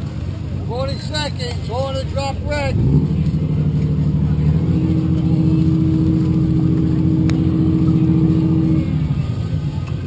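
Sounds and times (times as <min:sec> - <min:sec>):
motor engine running: 0:00.0 - 0:10.0.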